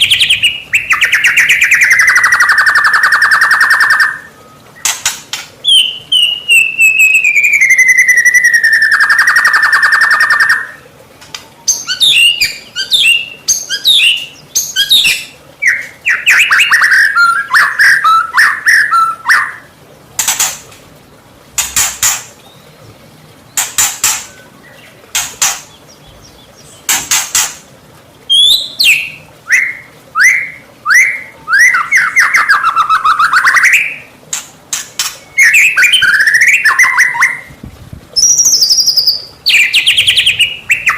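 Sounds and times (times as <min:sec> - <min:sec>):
bird singing varied song: 0:00.0 - 0:19.7, 0:21.6 - 0:27.6, 0:28.3 - 0:34.1, 0:34.7 - 0:37.5, 0:38.2 - 0:40.9.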